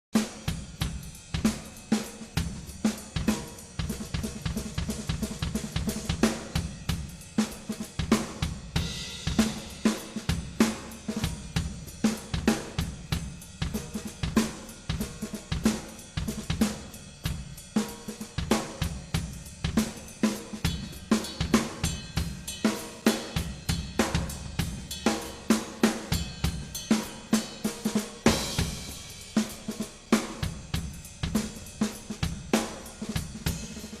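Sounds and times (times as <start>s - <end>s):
drum kit beat: 0.1s - 34.0s.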